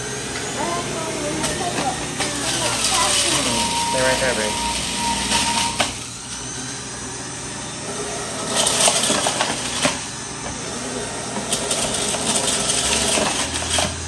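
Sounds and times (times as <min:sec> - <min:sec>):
juicer grinding fruit: 0:00.0 - 0:14.0.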